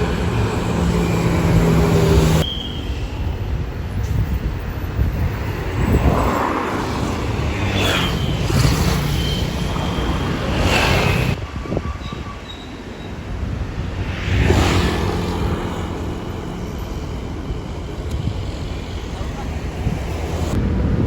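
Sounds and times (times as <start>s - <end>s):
tyre and wind noise: 0.0s - 21.0s
vehicle engines rumbling: 0.0s - 21.0s.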